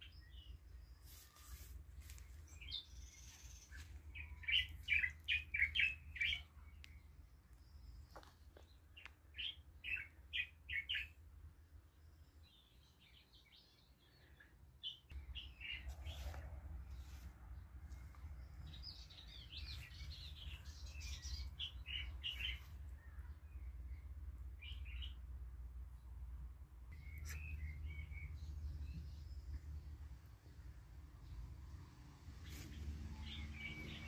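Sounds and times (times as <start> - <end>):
bird chirping: 0.0 - 11.2, 11.9 - 17.2, 17.9 - 25.3, 26.9 - 31.5, 32.3 - 34.0.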